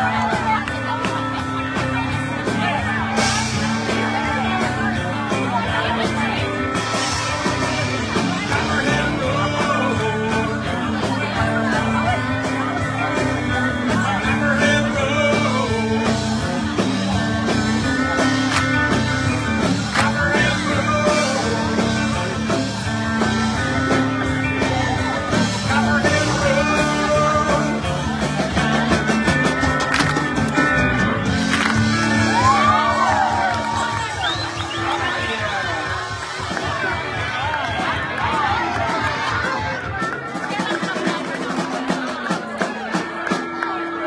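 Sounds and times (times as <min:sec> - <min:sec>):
country rock band playing: 0:00.0 - 0:44.0
electric guitar lead line: 0:00.0 - 0:44.0.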